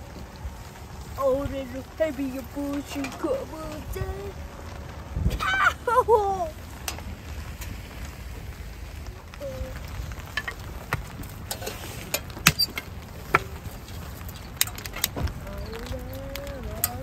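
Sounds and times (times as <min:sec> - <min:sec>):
kindling crackling and popping: 0:00.0 - 0:17.0
low fire rumble: 0:00.0 - 0:17.0.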